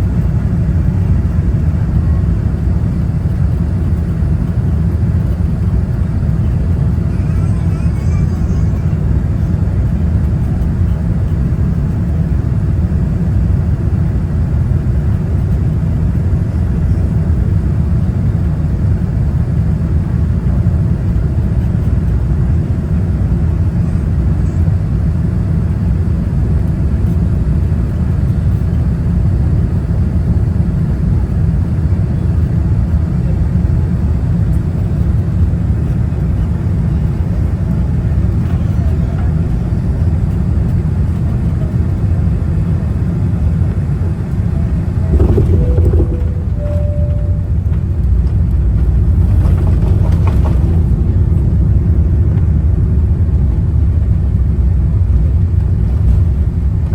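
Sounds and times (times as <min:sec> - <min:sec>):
airliner cabin engine rumble: 0:00.0 - 0:56.9.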